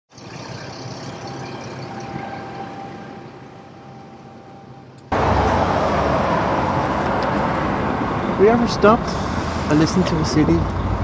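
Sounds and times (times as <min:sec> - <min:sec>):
close street noise: 0:00.1 - 0:11.0
distant city traffic hum: 0:00.1 - 0:11.0.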